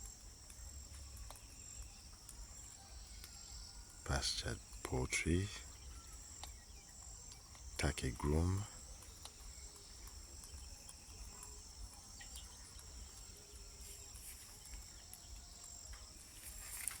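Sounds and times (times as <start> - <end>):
faint ticks: 0.0 - 17.0
insects chirring: 0.0 - 17.0.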